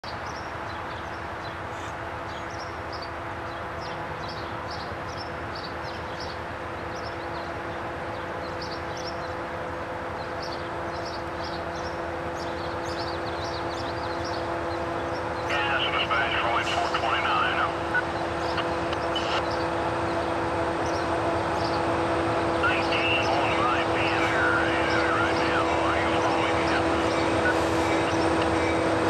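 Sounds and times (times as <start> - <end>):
birds chirping: 0.0 - 29.0
freight train humming: 0.0 - 29.0.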